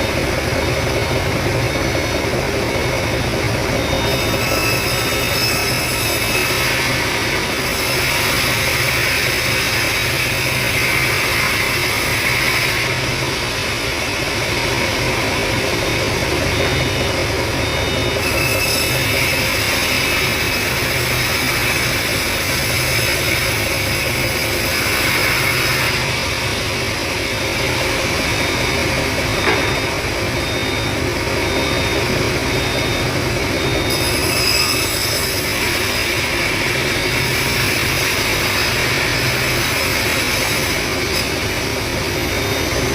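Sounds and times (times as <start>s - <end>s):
band sawmill cutting wood: 3.6s - 17.0s, 17.8s - 29.9s, 32.3s - 42.9s.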